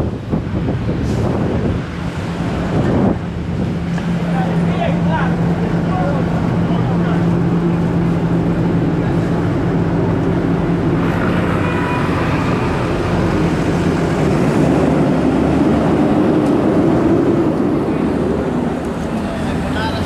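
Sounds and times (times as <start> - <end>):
street traffic: 0.0 - 20.0
wind rushing over microphone: 0.0 - 20.0
low steady drone: 2.0 - 20.0.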